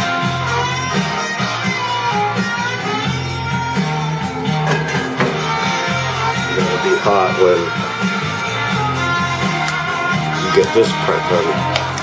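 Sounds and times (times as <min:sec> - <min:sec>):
guitar music with bass and beat: 0:00.0 - 0:12.0.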